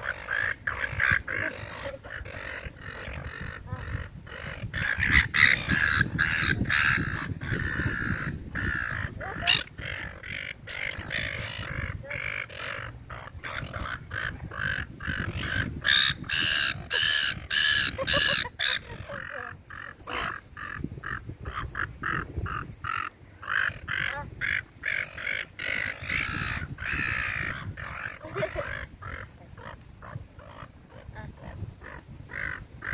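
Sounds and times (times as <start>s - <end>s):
seagulls calling: 0.0s - 31.0s.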